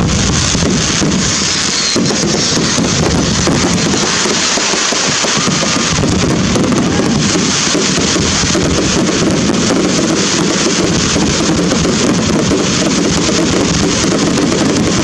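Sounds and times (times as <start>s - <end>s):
fireworks crackling: 0.0s - 15.0s
loud steady din: 0.0s - 15.0s.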